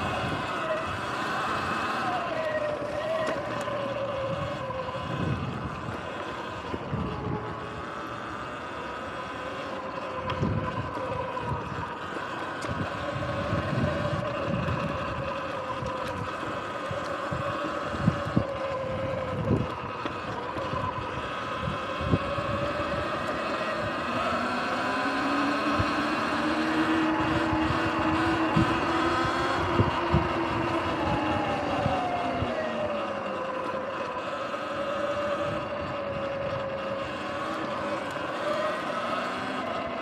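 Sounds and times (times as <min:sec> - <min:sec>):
electric dirt bike motor whining: 0:00.0 - 0:40.0.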